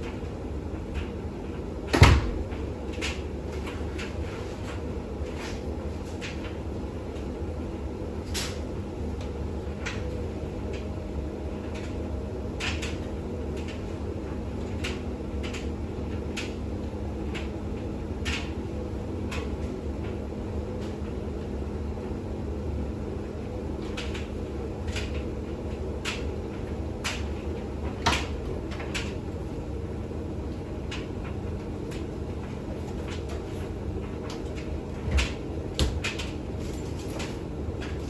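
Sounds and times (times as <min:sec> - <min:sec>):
washing machine spinning hum: 0:00.0 - 0:38.0.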